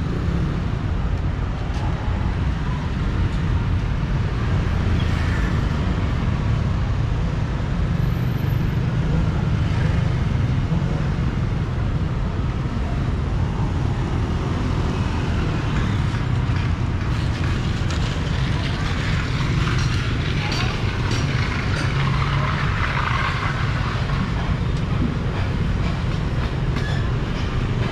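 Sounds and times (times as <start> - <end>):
low rumble of motor vehicles: 0.0 - 27.9
street noise: 0.0 - 27.9.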